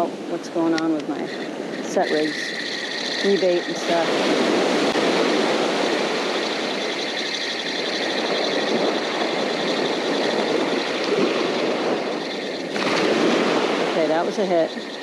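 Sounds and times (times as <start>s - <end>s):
small surf waves: 0.1s - 15.0s
fishing reel gears whirring: 1.1s - 15.0s.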